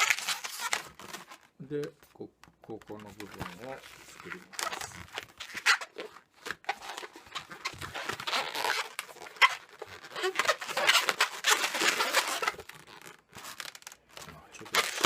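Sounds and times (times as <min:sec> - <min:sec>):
balloons squeaking and rubbing: 0:00.0 - 0:15.0.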